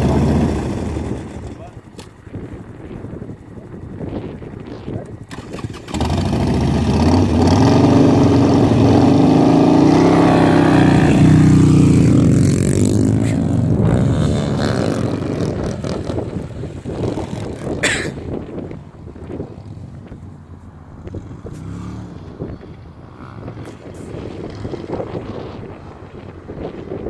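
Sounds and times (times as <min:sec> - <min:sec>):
motorcycles revving and accelerating: 0:00.0 - 0:01.8, 0:05.3 - 0:27.0.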